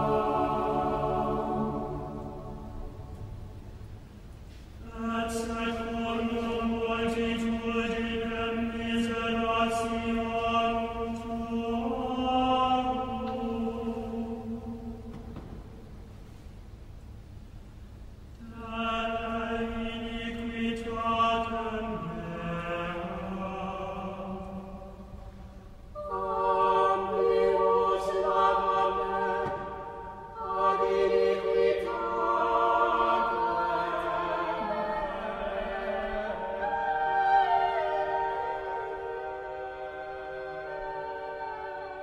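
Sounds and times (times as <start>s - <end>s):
slow choir-like music: 0.0s - 17.1s, 18.2s - 42.0s.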